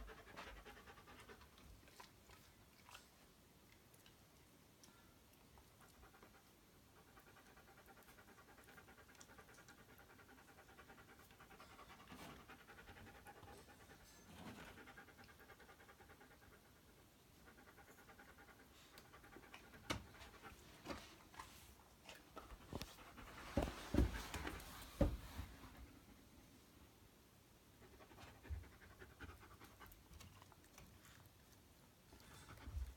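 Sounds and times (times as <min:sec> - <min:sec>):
dog panting: 0:00.0 - 0:03.2, 0:05.6 - 0:25.9, 0:27.8 - 0:32.9.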